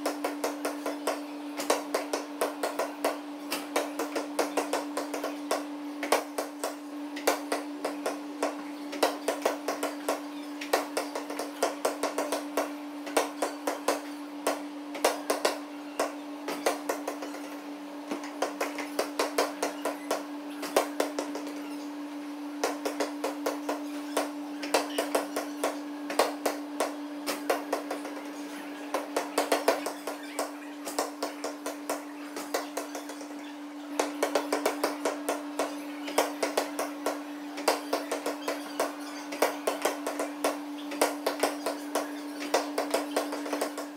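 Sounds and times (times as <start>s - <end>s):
basketballs bouncing on gym floor: 0.0s - 17.4s, 18.1s - 21.6s, 22.6s - 28.3s, 34.0s - 43.9s.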